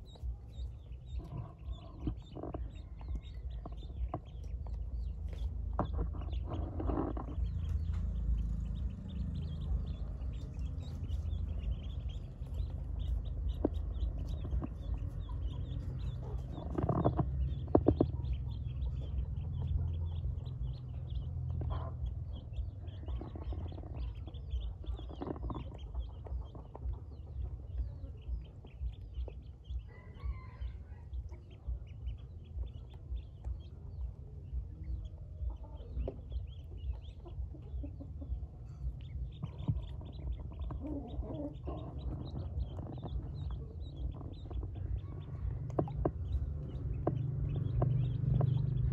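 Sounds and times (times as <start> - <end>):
ducklings peeping: 0.0 - 48.9
steady low rumble: 0.0 - 48.9.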